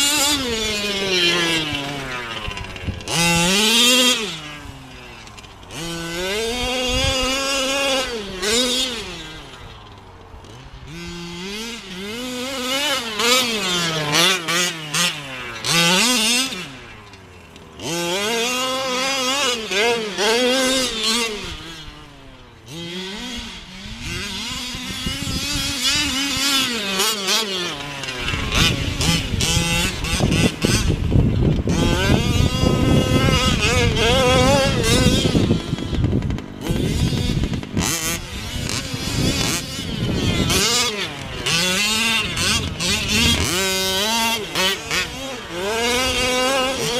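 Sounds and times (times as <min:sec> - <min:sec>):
small two-stroke engine revving: 0:00.0 - 0:46.9.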